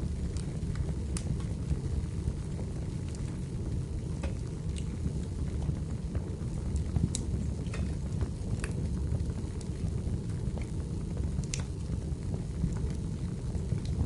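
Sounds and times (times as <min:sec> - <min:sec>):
fire flames rumbling: 0:00.0 - 0:14.0
firewood crackling and popping: 0:00.0 - 0:14.0.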